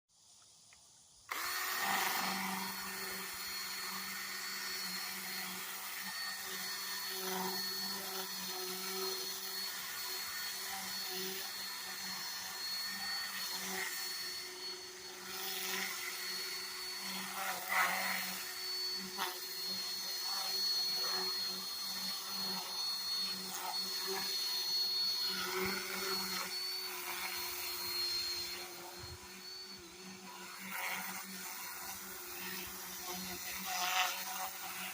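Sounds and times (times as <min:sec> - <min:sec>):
power tool motor running: 0:01.3 - 0:34.9
sanding wheel scratching wood: 0:01.3 - 0:34.9.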